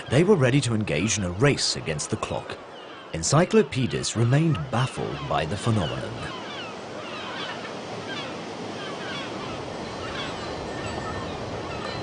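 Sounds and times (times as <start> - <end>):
high bird calls: 0.0 - 12.0
sea surf: 0.0 - 12.0
wind: 0.0 - 12.0.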